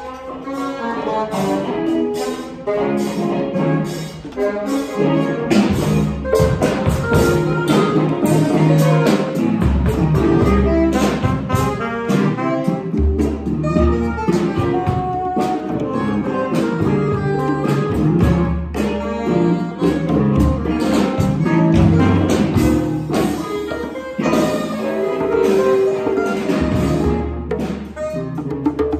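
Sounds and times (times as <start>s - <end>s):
electric guitar: 0.0s - 28.9s
saxophone: 0.0s - 28.9s
low bass notes: 1.0s - 28.6s
drum and percussion hits: 5.4s - 28.9s.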